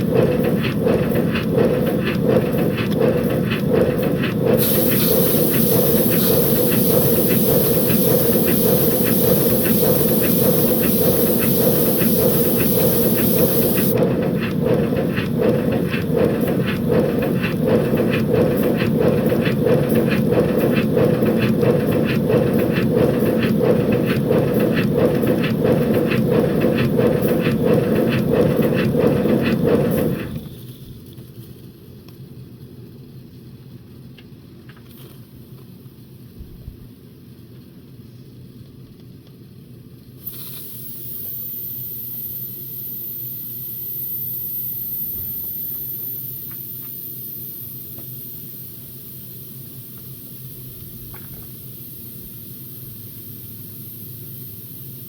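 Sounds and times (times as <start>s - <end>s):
model steam locomotive exhaust beats: 0.0s - 31.2s, 40.2s - 55.0s.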